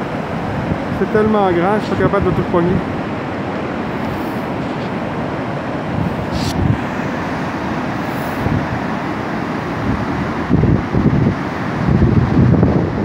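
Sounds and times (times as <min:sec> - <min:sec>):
waterfall roaring: 0:00.0 - 0:13.0
wind gusting on microphone: 0:00.0 - 0:13.0.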